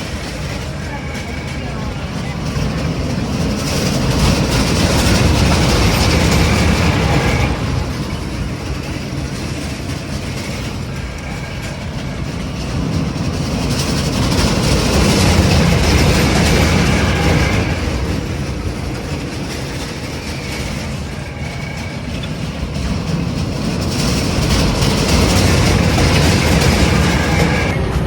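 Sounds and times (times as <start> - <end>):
ride cars rumbling on a track: 0.0 - 28.0.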